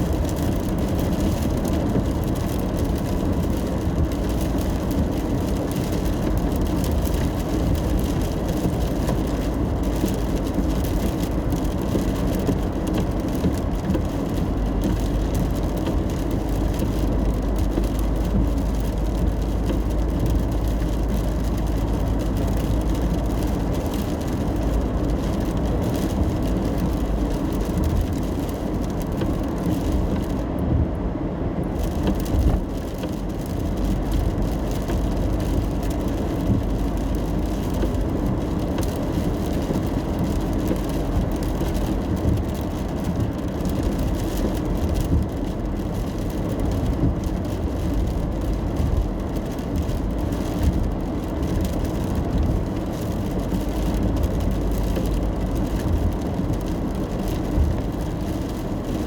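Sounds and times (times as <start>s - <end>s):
car road and engine rumble: 0.0s - 59.0s
rain on car: 0.0s - 59.0s
tyres hissing on wet road: 0.0s - 59.0s.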